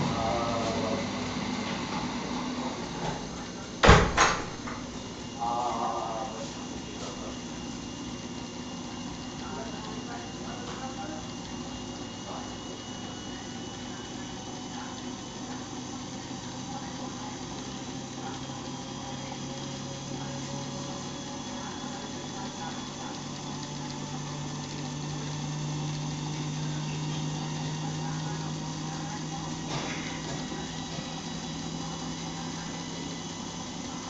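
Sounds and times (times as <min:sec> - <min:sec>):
washing machine humming: 0:00.0 - 0:34.0.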